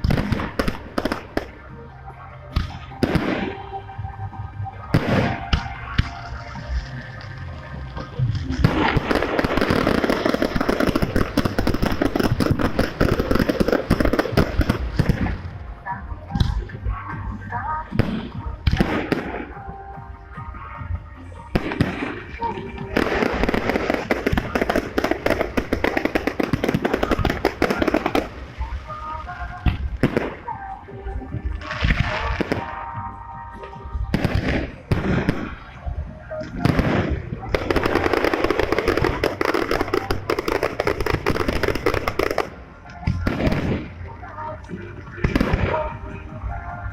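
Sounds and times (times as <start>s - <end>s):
fireworks cracking and banging: 0.0s - 1.8s, 2.4s - 46.9s.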